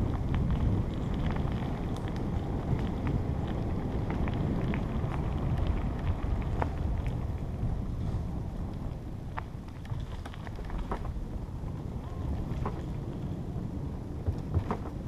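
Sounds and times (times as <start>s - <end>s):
bike tyres clicking and rattling: 0.0s - 15.0s
wind rushing over microphone: 0.0s - 15.0s.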